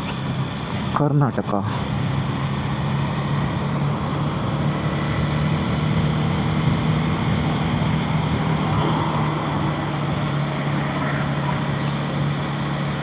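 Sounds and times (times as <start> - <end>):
motorcycle engine running steadily: 0.0 - 13.0
road noise: 0.0 - 13.0.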